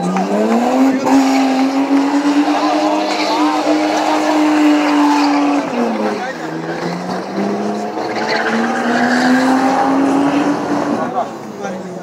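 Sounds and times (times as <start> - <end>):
car engine revving: 0.0 - 12.0
tyres spinning: 0.0 - 12.0.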